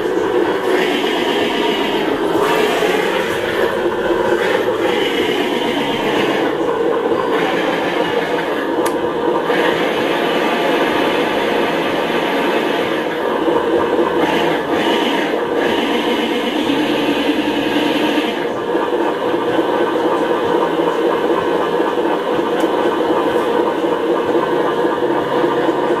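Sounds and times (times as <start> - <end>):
simulated engine through small speaker: 0.0 - 26.0.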